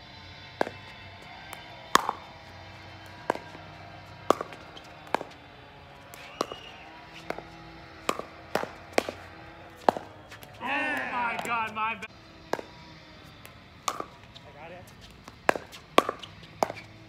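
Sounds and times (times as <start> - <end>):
paddles striking plastic ball: 0.6 - 14.4, 15.0 - 17.0.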